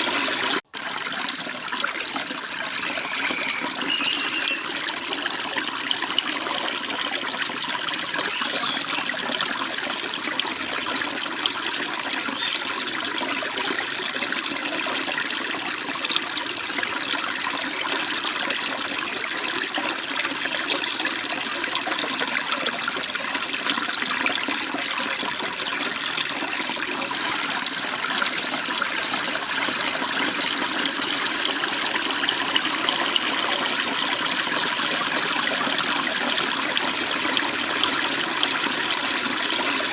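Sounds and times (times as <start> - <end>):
stream babbling and splashing: 0.0 - 39.9.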